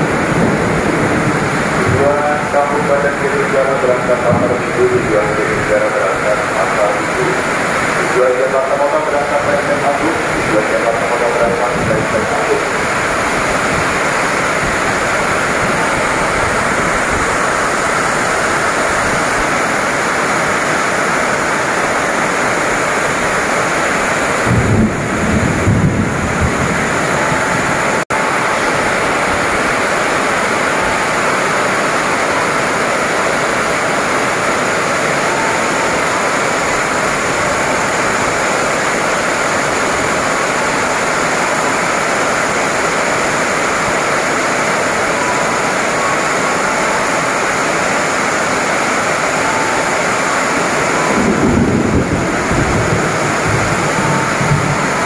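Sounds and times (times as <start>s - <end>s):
heavy rain pelting: 0.0s - 55.0s.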